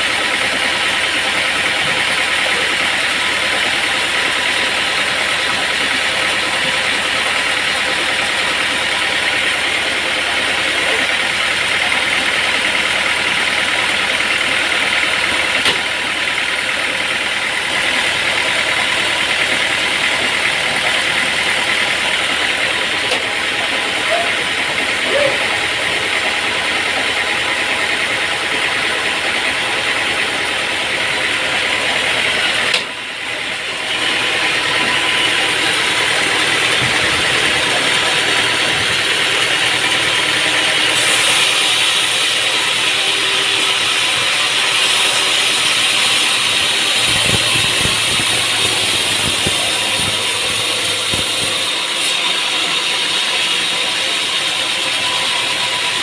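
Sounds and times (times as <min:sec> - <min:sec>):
sawmill machinery whirring: 0:00.0 - 0:56.0.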